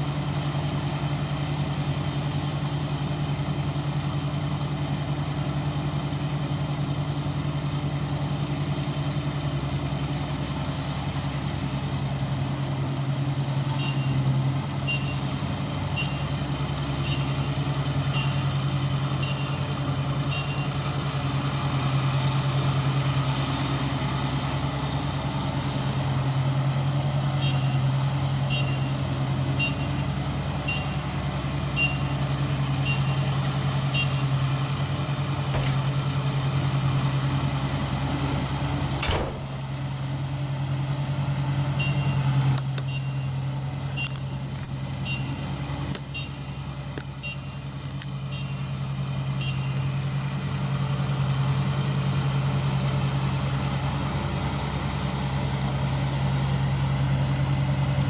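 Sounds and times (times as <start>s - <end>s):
harvester engine droning: 0.0s - 58.0s.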